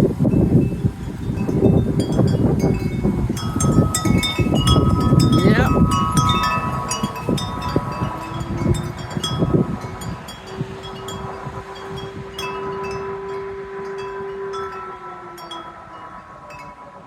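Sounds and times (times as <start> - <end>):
wind chimes jangling: 0.0 - 16.9
wind rushing on microphone: 0.0 - 17.0.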